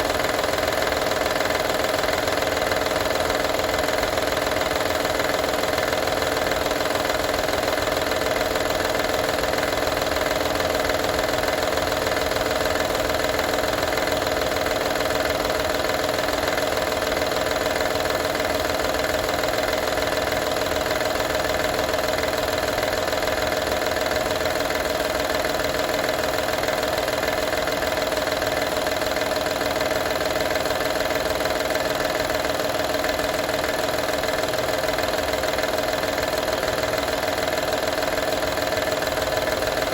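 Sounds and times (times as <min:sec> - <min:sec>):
car engine idling: 0:00.0 - 0:39.9
fast rattle: 0:00.0 - 0:39.9.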